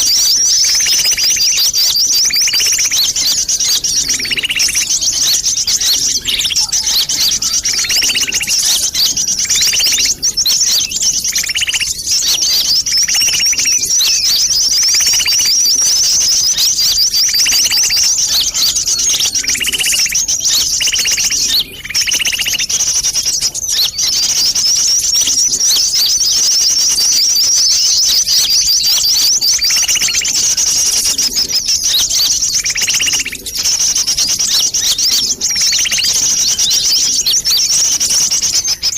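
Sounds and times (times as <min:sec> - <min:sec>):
sunbirds twittering: 0:00.0 - 0:38.9.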